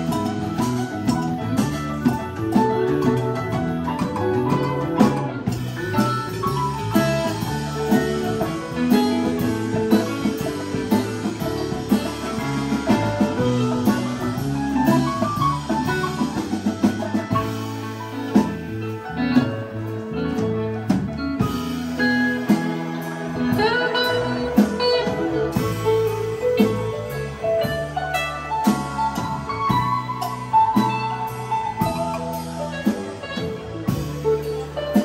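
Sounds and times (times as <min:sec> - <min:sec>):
live band playing instrumental: 0:00.0 - 0:35.0.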